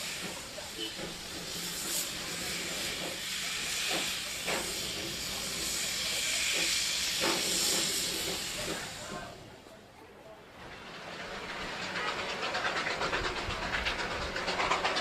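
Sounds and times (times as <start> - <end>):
steam hissing: 0.0 - 9.6, 10.6 - 15.0.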